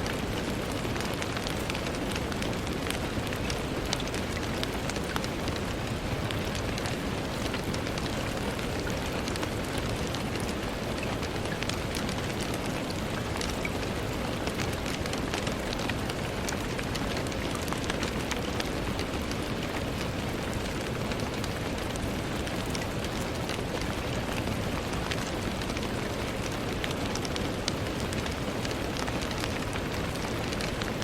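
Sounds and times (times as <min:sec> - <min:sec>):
rain falling on a window: 0:00.0 - 0:31.0.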